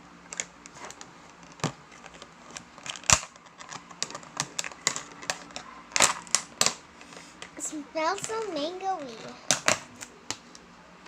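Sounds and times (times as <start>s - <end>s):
handling clicks and crinkles: 0.3s - 10.7s.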